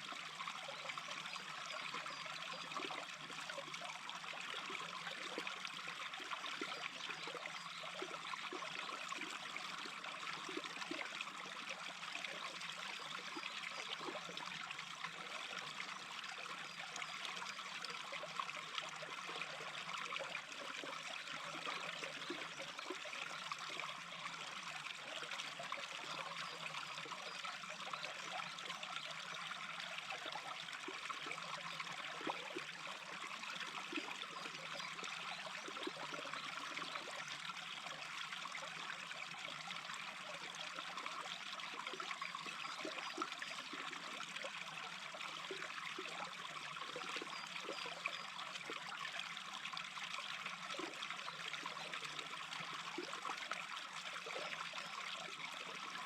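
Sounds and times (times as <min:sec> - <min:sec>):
small stream babbling: 0:00.0 - 0:56.0.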